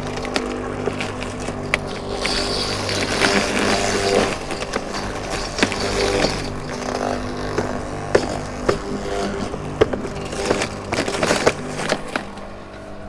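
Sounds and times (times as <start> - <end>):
twigs cracking and snapping: 0.0 - 12.5
garden shredder motor hum: 0.0 - 13.0.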